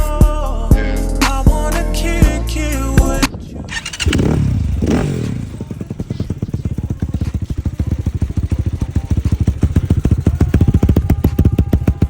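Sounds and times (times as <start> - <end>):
dirt bike engine idling: 1.5 - 12.0.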